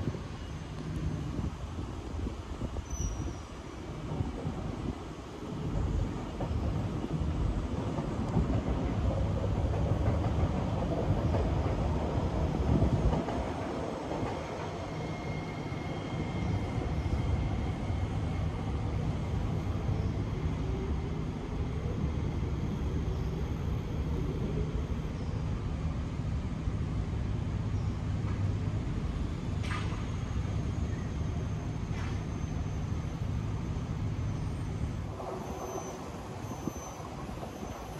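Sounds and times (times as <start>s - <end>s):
train running hum: 0.0s - 37.9s.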